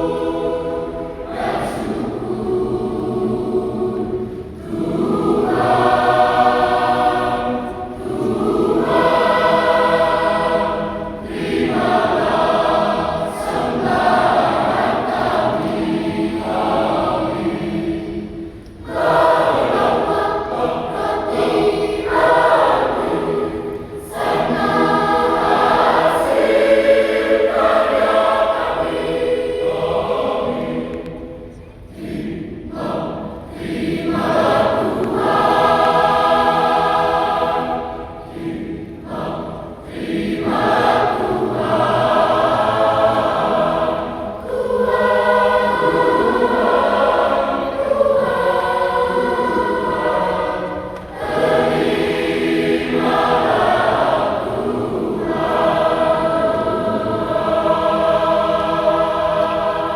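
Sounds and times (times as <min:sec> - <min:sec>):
church choir singing a hymn: 0:00.0 - 0:59.9.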